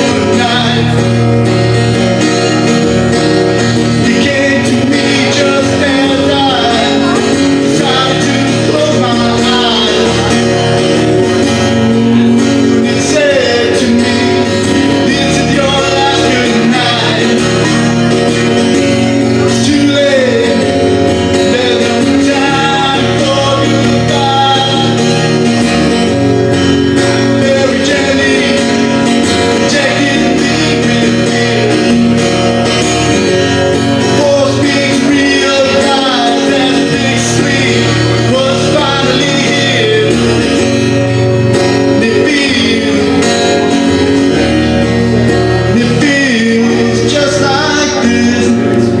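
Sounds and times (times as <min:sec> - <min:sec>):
guitar playing: 0:00.0 - 0:49.0
person singing: 0:00.0 - 0:49.0.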